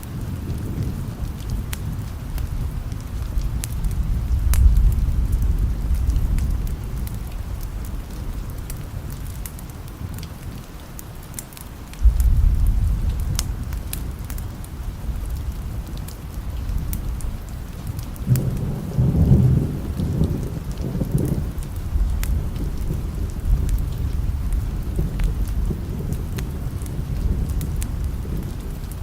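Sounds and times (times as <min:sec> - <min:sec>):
steady rain: 0:00.0 - 0:29.0
rolling thunder: 0:00.1 - 0:10.2, 0:12.0 - 0:29.0.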